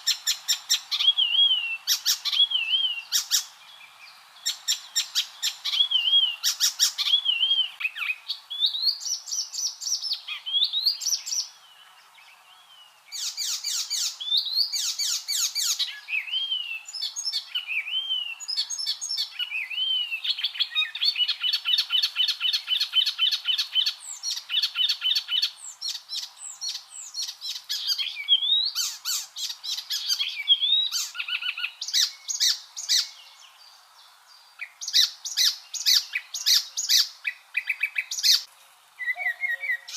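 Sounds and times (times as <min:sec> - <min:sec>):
warbler singing: 0:00.0 - 0:39.9.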